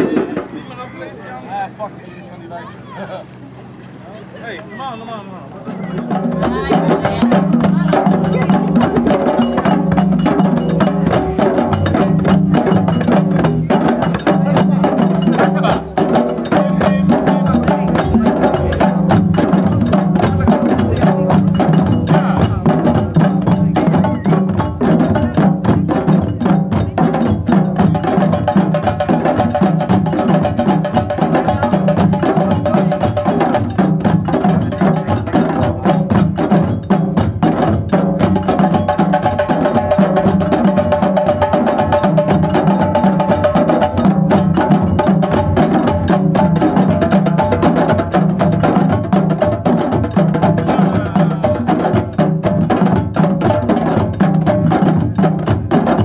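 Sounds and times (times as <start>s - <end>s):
hand drums playing fast rhythm: 0.0s - 2.0s, 4.5s - 56.0s.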